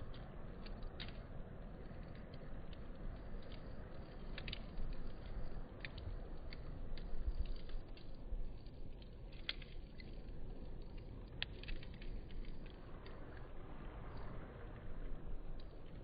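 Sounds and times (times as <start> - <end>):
campfire crackling: 0.0 - 16.0
low rumble of flame: 0.0 - 16.0.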